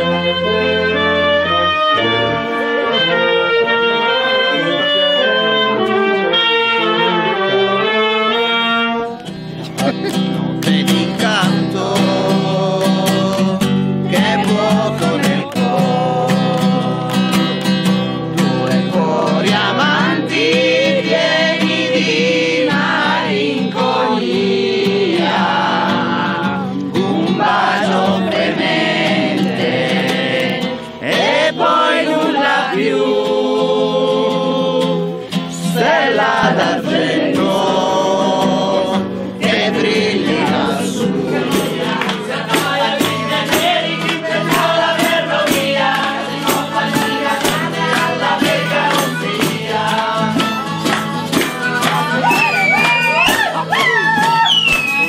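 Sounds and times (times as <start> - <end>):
group singing together: 0.0 - 53.8
acoustic guitar: 0.0 - 55.0.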